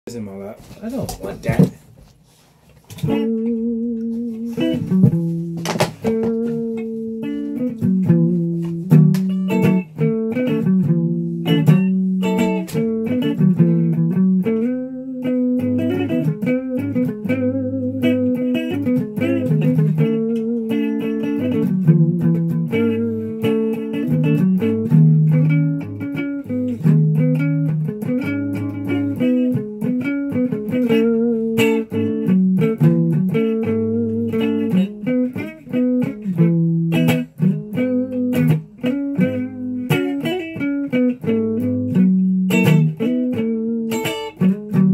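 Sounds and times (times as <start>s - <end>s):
electric guitar notes and chords: 2.9s - 44.9s.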